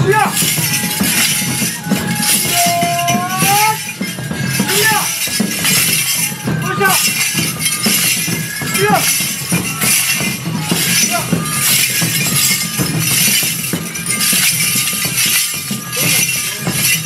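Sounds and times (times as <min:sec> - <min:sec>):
festival music: 0:00.0 - 0:17.0
metal rings jangling on staffs: 0:00.0 - 0:17.0.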